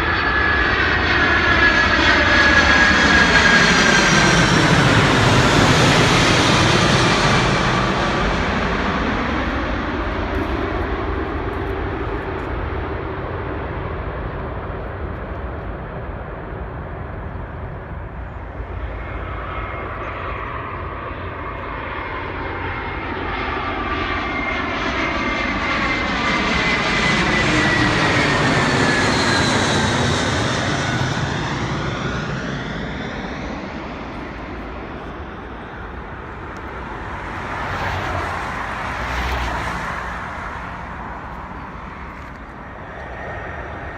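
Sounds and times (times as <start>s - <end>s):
whining engine tones: 0.0s - 12.4s, 18.2s - 43.9s
jet airliner passing: 0.0s - 43.9s.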